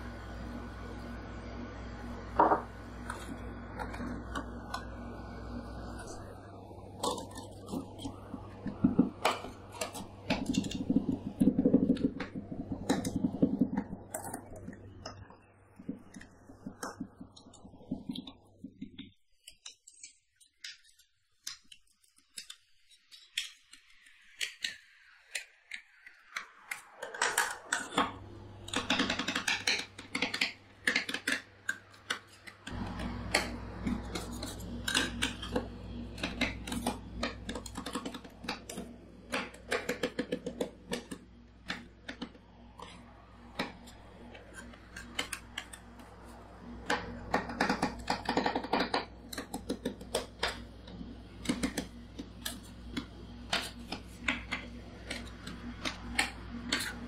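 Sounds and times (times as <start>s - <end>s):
steady low hum: 0.0s - 19.2s, 27.4s - 57.0s.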